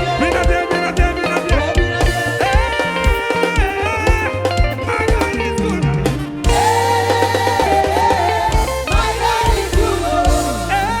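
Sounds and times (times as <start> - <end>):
live gospel band playing: 0.0 - 11.0.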